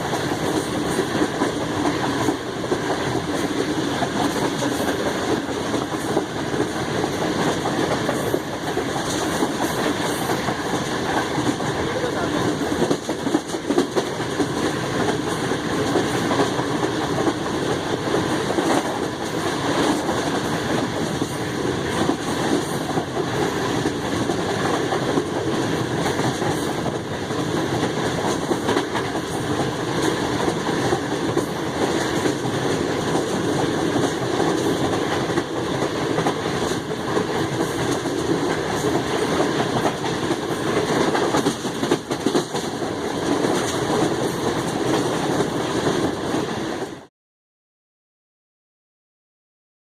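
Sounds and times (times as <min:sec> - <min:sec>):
rail joint clicks: 0:00.0 - 0:47.0
train wheels rumbling on rails: 0:00.0 - 0:47.1.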